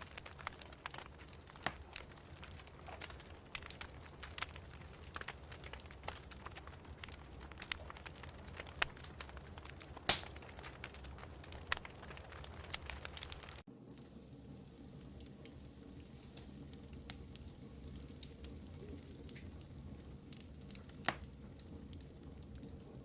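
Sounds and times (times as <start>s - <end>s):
fire popping: 0.0s - 23.0s
wood fire crackling: 0.0s - 23.0s.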